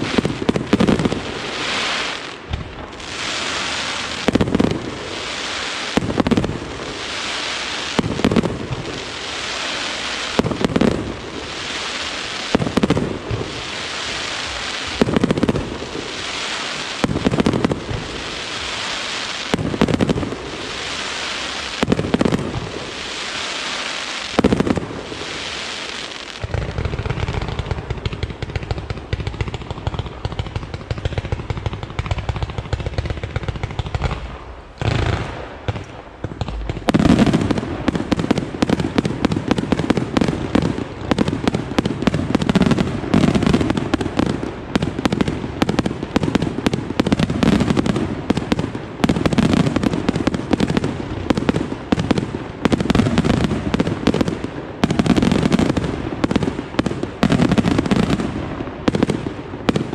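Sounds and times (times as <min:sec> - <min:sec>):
firework bangs: 0:00.0 - 0:59.9
firework crackling hiss: 0:00.0 - 0:59.9.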